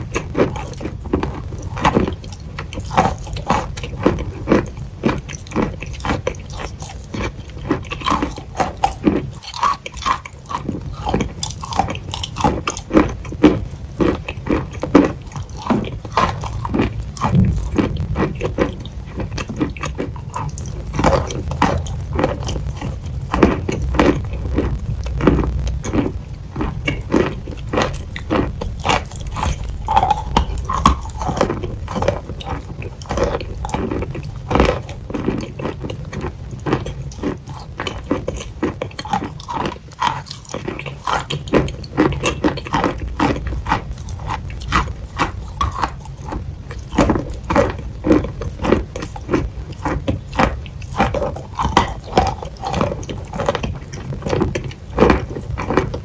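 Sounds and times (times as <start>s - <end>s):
biting and chewing crunches: 0.0s - 56.0s
low rumble: 10.7s - 56.0s.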